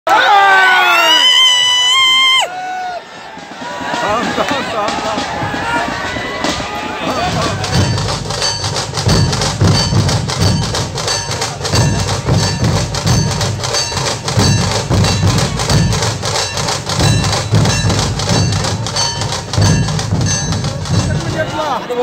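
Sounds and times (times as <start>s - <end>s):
deep drum strokes: 3.2s - 21.8s.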